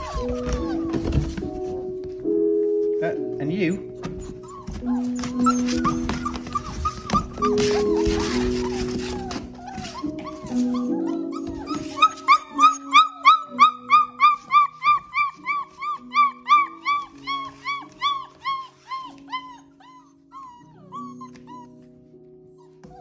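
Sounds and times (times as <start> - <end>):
puppy yipping: 0.0 - 1.4, 3.7 - 21.9, 22.5 - 23.0
background music: 0.0 - 23.0.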